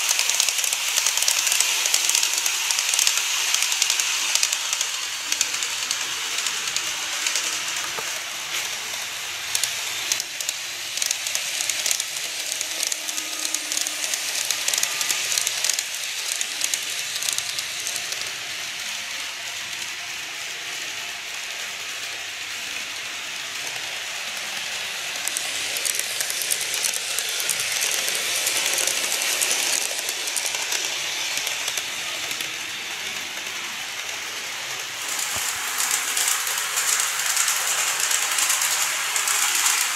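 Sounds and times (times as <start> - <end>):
model train motor hiss: 0.0 - 39.9
wheels clicking over rail joints: 0.0 - 39.9.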